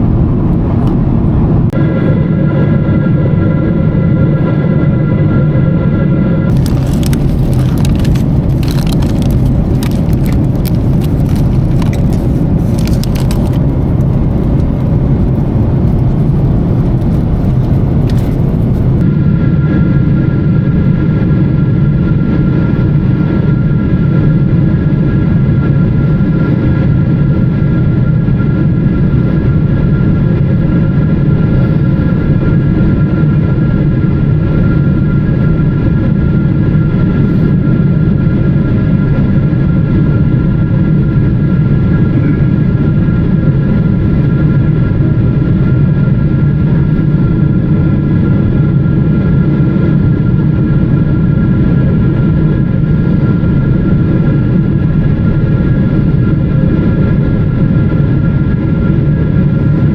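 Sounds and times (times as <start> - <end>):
airplane cabin rumble: 0.0 - 59.9
faint engine whine: 0.0 - 59.9.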